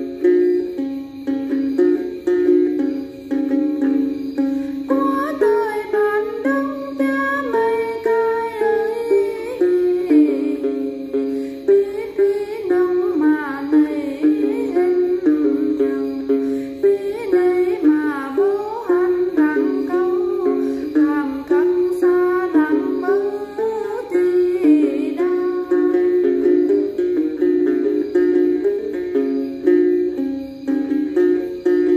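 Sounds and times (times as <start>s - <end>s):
plucked long-necked lute: 0.0s - 31.9s.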